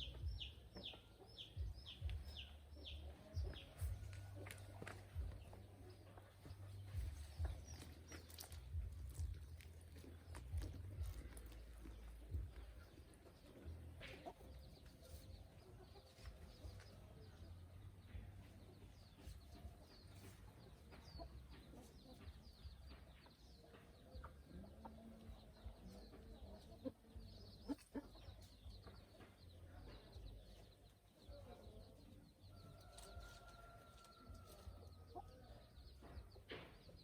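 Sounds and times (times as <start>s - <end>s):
chickens clucking: 0.0s - 17.4s, 18.0s - 37.0s.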